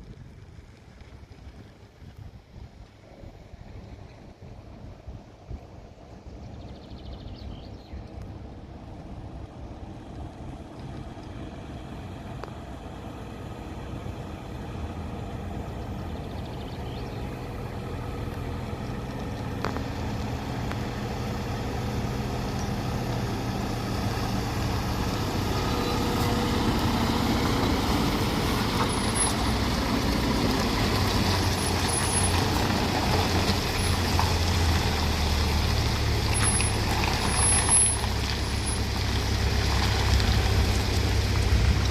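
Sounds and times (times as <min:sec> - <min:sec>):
truck tyres rolling: 0:00.0 - 0:06.4, 0:07.2 - 0:41.9
truck diesel engine: 0:07.3 - 0:41.9.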